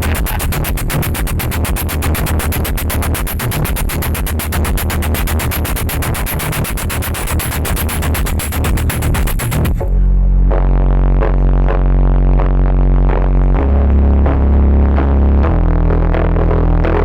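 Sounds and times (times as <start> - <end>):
loud electronic dance music: 0.0 - 14.6.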